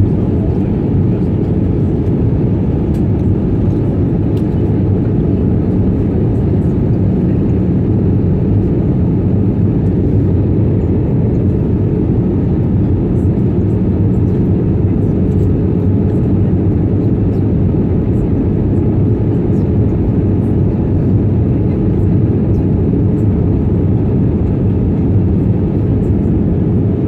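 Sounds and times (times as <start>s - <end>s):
airplane cabin engine noise: 0.0s - 27.0s.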